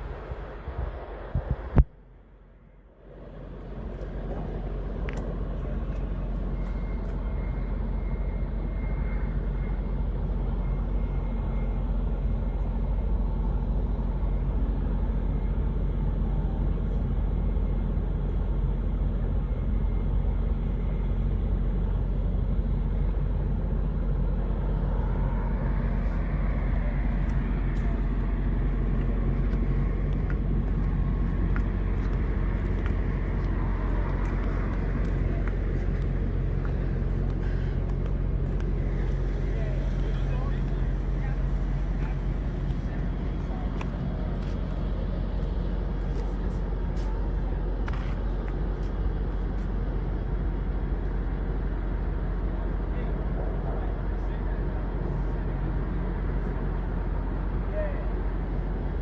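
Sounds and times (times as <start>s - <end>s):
vehicle engine humming: 0.0s - 59.0s.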